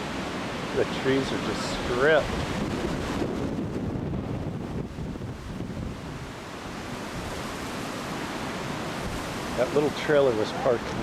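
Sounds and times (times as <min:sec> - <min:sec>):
wind buffeting microphone: 0:00.0 - 0:09.9, 0:10.6 - 0:11.0.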